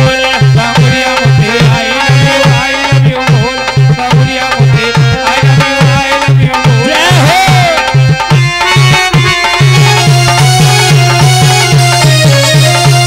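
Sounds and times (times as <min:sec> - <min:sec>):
hand drums beating: 0:00.0 - 0:13.0
keyboard melody with sliding notes: 0:00.0 - 0:13.0.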